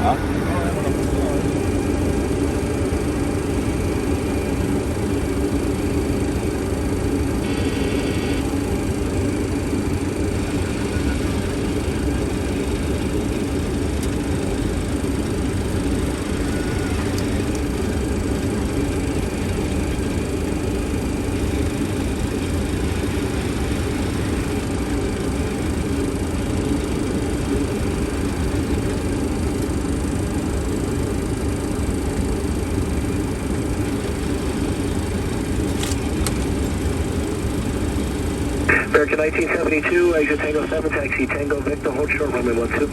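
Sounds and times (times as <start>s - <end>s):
airflow noise around cockpit: 0.0s - 42.9s
low aircraft rumble: 0.0s - 42.9s.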